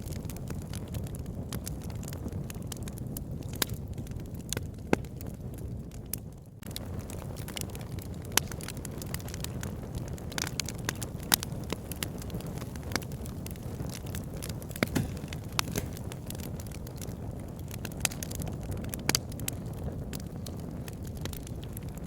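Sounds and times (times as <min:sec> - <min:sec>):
burning logs popping: 0:00.0 - 0:22.0
low rumble of flames: 0:00.0 - 0:22.0.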